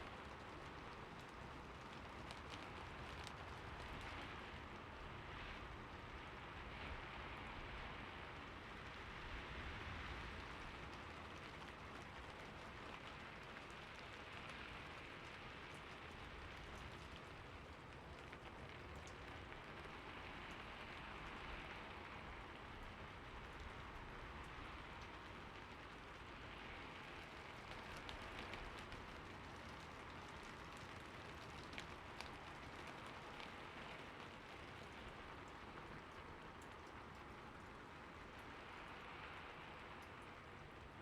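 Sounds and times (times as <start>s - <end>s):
soft steady rain: 0.0s - 41.0s.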